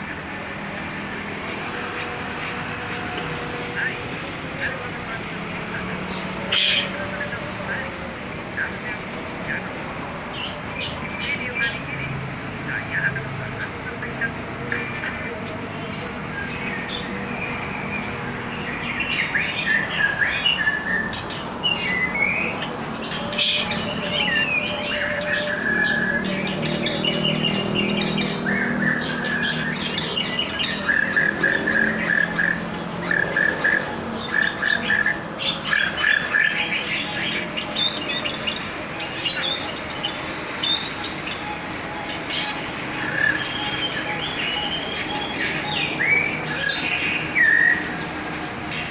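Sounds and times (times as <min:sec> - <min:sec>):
songbird chirps and trills: 0:00.0 - 0:48.9.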